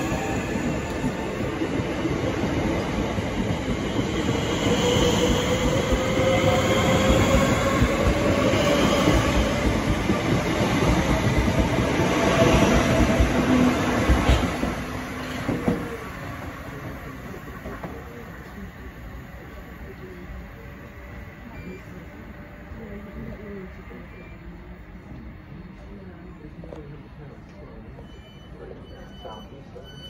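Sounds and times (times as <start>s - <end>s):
train wheels rumbling on rail: 0.0s - 28.1s.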